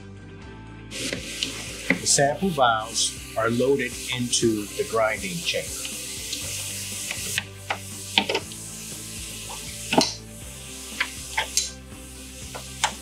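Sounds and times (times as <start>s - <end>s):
steady hiss: 0.9s - 13.0s.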